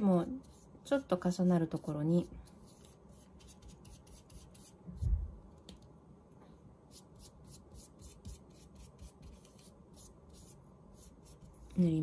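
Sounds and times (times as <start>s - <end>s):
brush spreading glue on paper: 0.0s - 5.2s, 6.9s - 12.0s.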